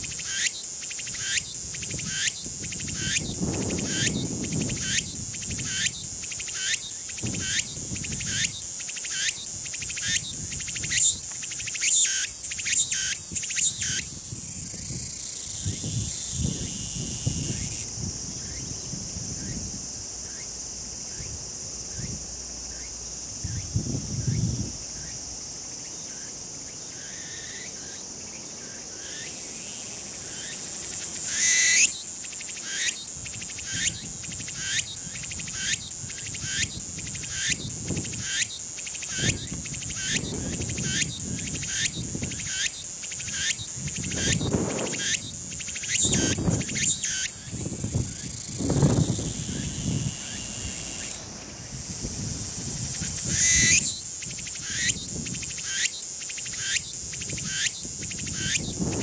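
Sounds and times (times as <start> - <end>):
cicada singing: 0.0 - 59.0.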